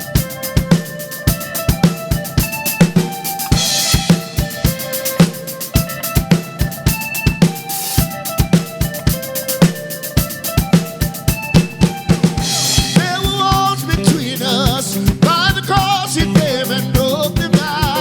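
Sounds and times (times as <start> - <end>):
drum kit beat: 0.0 - 18.0.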